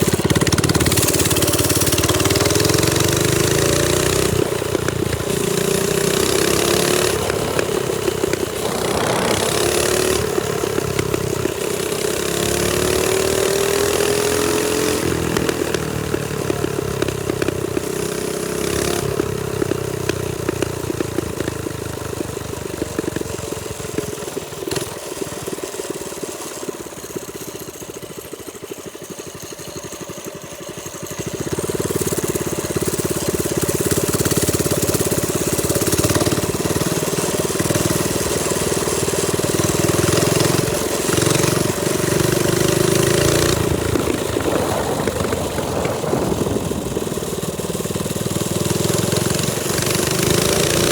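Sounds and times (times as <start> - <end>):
small motorbike engine running: 0.0 - 50.9.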